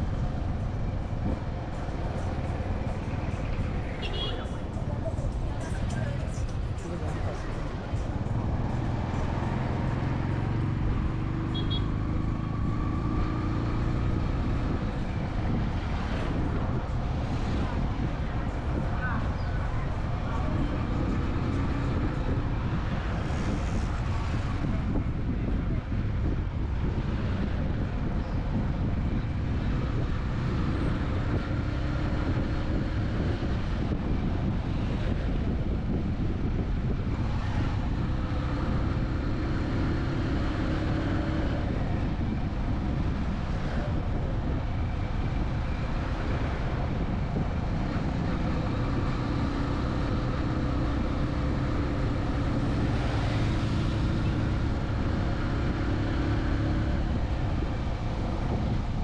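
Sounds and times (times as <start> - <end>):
low rumble of road noise: 0.0 - 59.0
vehicle engines running: 0.0 - 59.0.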